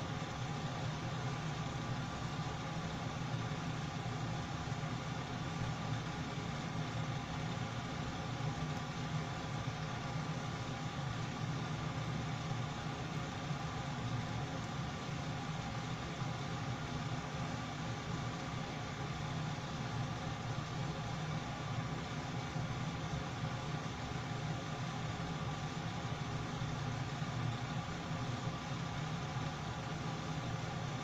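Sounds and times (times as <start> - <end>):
exhaust fan humming: 0.0 - 31.0.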